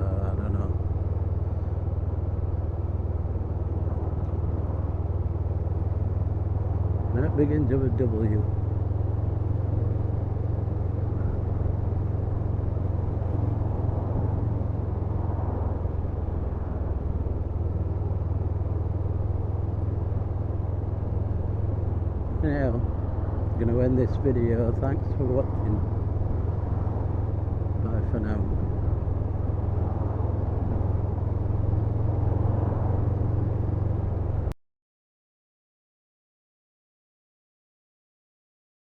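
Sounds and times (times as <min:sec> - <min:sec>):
motorcycle engine droning: 0:00.0 - 0:34.6.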